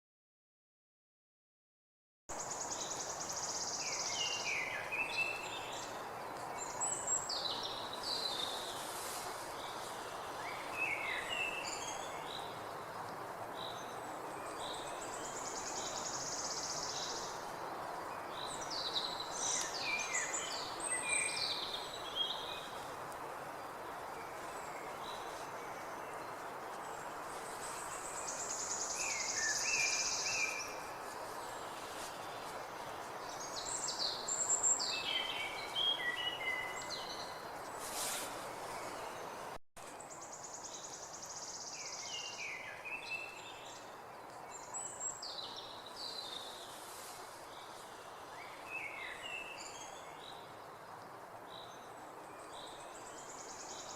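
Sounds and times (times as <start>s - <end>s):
steady background hiss: 2.3s - 53.9s
wild birds chirping and singing: 2.4s - 53.9s.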